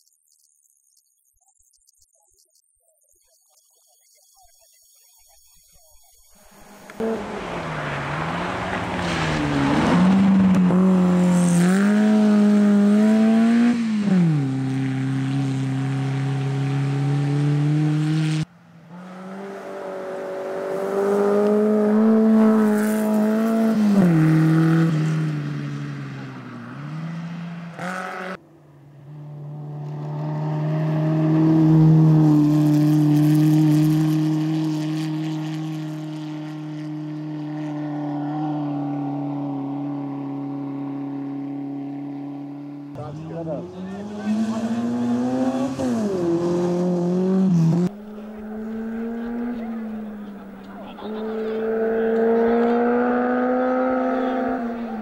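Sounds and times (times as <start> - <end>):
rally car engine revving: 6.4 - 55.0.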